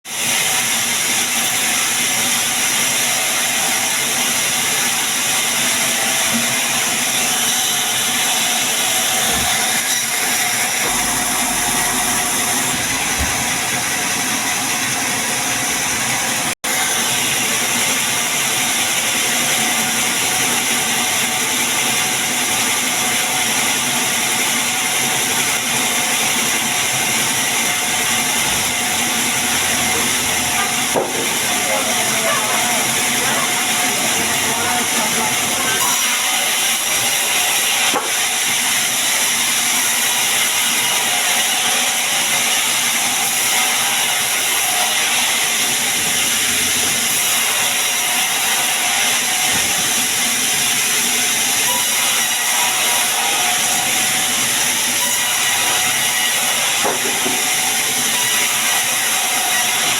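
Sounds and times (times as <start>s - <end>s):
sawmill saw running: 0.1s - 59.9s.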